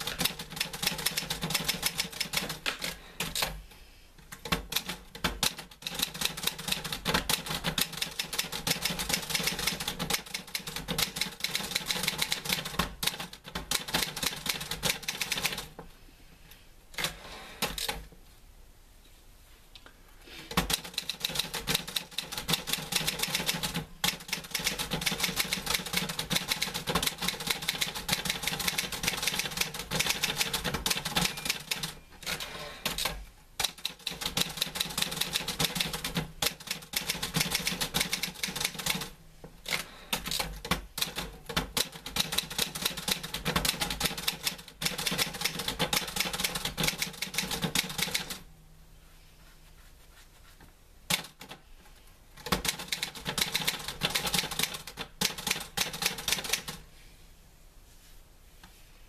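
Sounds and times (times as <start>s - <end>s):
typewriter typing: 0.0s - 3.6s, 4.3s - 15.7s, 17.0s - 18.0s, 20.5s - 48.4s, 51.1s - 51.6s, 52.4s - 56.8s.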